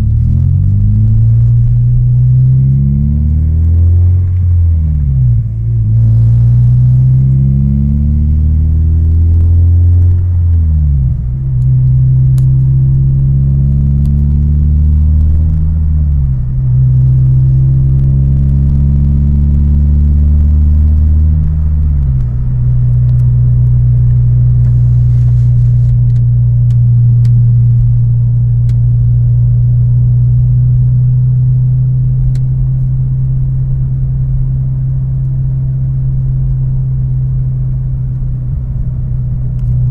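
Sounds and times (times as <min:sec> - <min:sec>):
car engine deep drone: 0:00.0 - 0:39.9.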